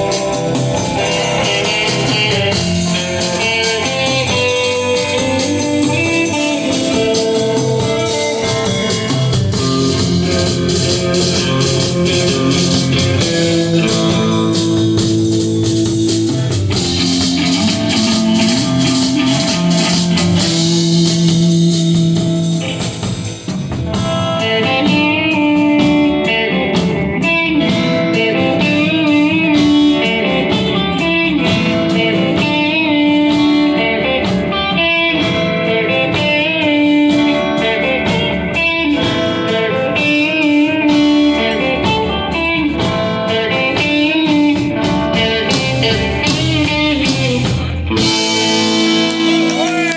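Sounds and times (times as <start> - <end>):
bass: 0.0 - 49.9
drums: 0.0 - 49.9
electric guitar melody with vibrato: 0.0 - 49.9.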